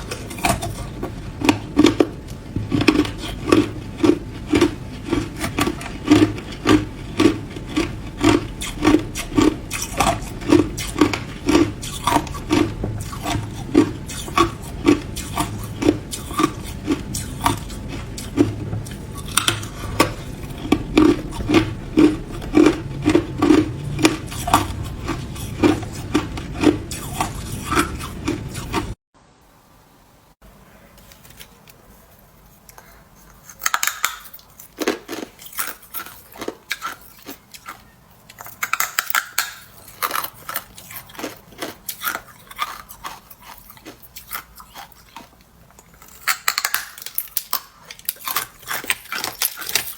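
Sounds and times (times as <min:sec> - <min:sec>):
person chewing ice: 0:00.0 - 0:29.0, 0:32.6 - 0:49.9.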